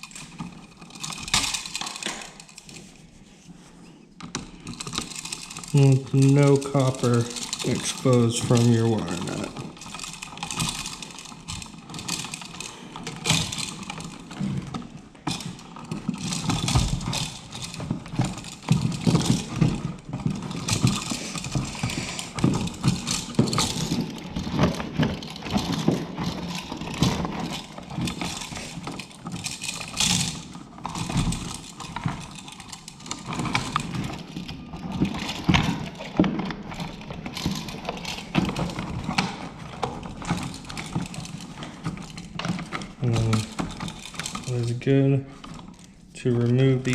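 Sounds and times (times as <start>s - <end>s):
clicks scrapes and knocks: 0.0s - 46.9s.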